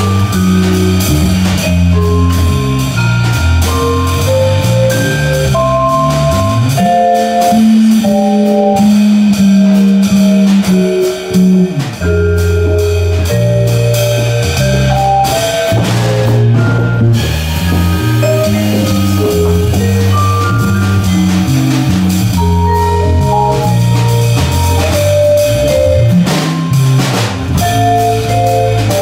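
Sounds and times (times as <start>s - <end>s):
drum kit with cymbals: 0.0s - 29.0s
vibraphone melody: 0.0s - 29.0s
walking electric bass: 0.0s - 29.0s.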